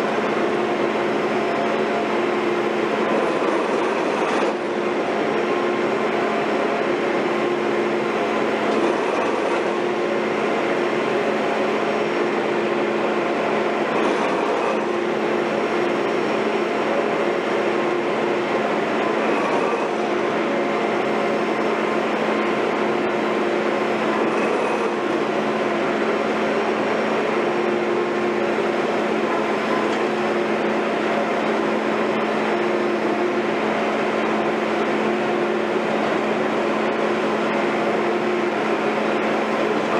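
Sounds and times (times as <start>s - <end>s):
construction machinery drone: 0.0s - 39.9s.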